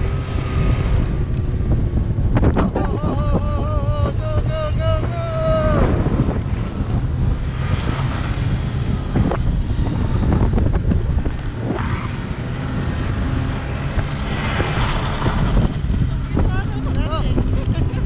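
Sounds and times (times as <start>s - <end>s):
snowmobile engine drone: 0.0s - 18.0s
wind rushing over microphone: 0.0s - 18.0s.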